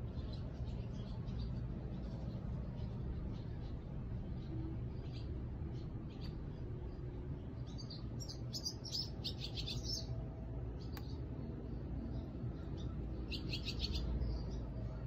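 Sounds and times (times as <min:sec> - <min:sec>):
low background rumble: 0:00.0 - 0:15.0
small birds chirping: 0:00.0 - 0:15.0.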